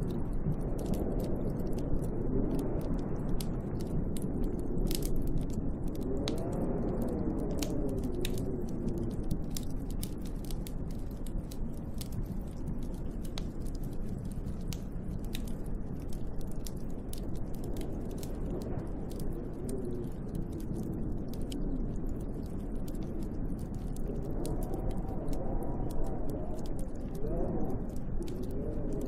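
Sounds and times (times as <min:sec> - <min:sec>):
howling wind: 0:00.0 - 0:29.0
small sharp crackling ticks: 0:00.0 - 0:29.0.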